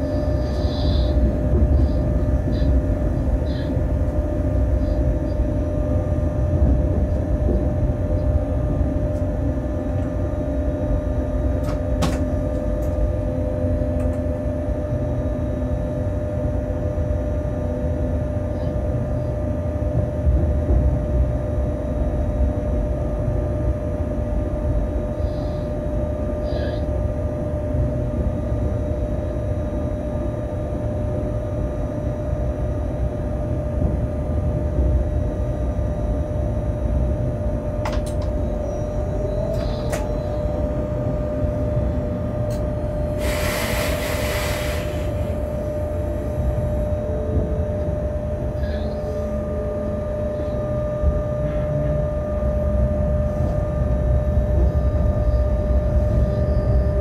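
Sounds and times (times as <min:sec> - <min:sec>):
mid-pitched equipment hum: 0:00.0 - 0:57.0
train rolling rumble: 0:00.0 - 0:57.0.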